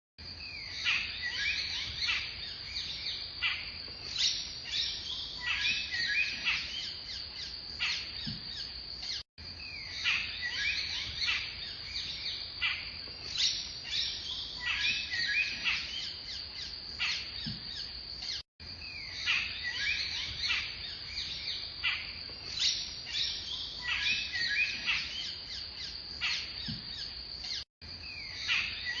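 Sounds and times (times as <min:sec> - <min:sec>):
birds chirping and calling: 0:00.4 - 0:29.0.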